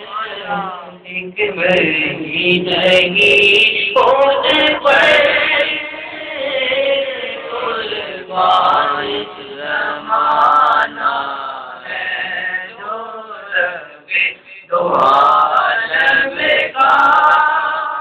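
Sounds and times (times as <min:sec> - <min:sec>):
boy singing devotional verse: 0:00.0 - 0:18.0.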